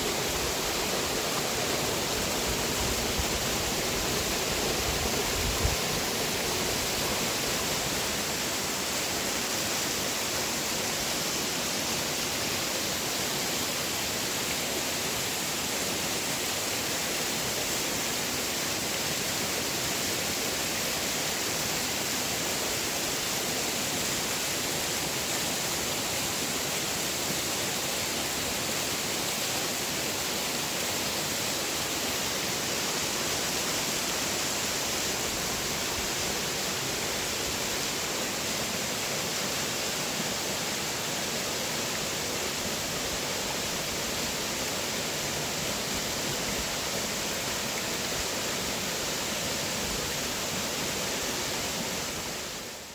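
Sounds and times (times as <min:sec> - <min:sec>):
water rushing down waterfall: 0:00.0 - 0:52.9.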